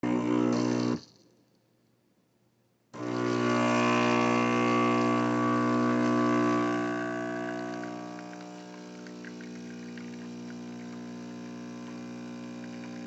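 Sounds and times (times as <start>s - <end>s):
espresso machine pump buzzing: 0.0s - 1.1s, 3.0s - 13.0s.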